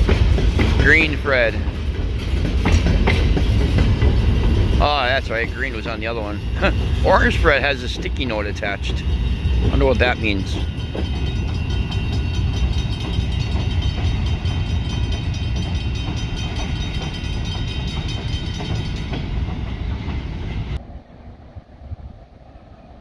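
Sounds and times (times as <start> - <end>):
train wheels clattering on rails: 0.0 - 20.8.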